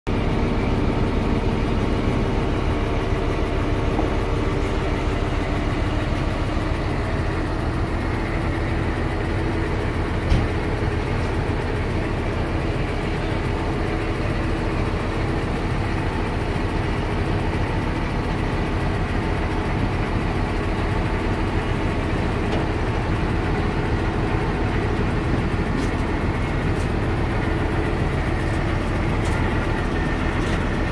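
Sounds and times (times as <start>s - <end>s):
heavy vehicle engine idling: 0.1s - 30.9s.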